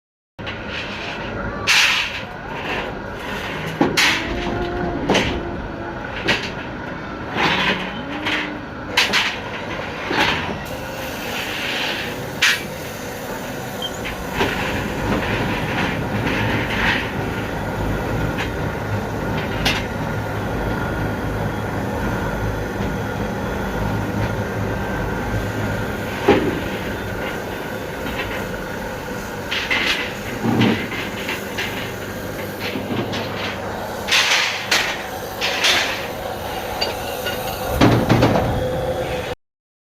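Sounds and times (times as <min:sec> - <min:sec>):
steady machine hum: 0:01.4 - 0:39.4.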